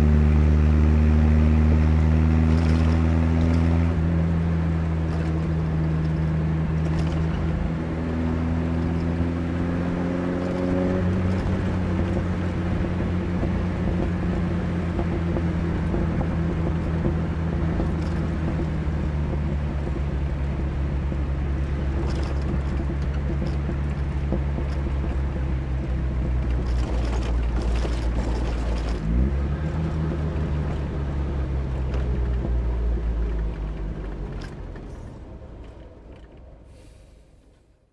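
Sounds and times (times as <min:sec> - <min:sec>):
car engine running while driving: 0:00.0 - 0:37.7.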